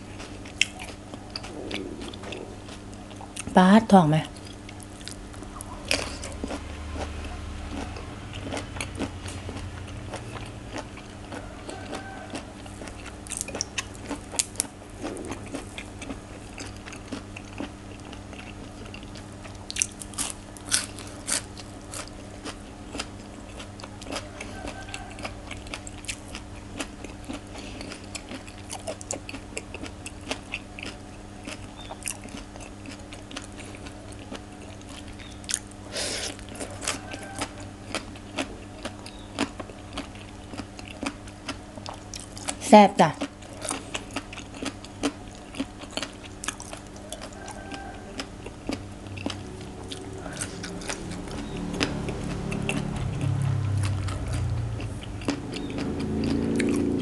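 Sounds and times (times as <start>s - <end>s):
chewing with wet mouth sounds: 0.0s - 57.0s
steady low hum: 0.0s - 57.0s.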